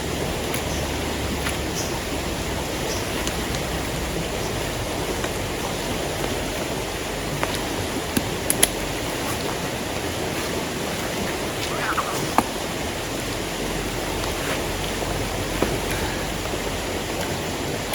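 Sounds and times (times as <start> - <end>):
fast-flowing river: 0.0 - 17.9
heavy rain: 0.0 - 17.9.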